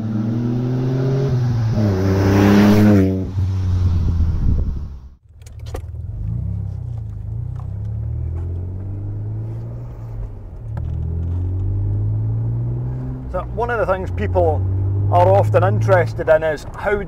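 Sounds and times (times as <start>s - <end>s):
car engine running on the road: 0.0s - 17.0s.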